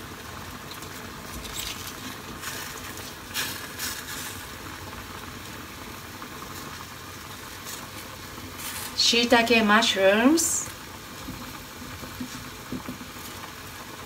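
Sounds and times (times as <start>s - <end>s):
broth simmering and bubbling: 0.0s - 14.0s
soft rustles of vegetables: 0.5s - 5.6s, 6.2s - 9.2s, 10.6s - 14.0s.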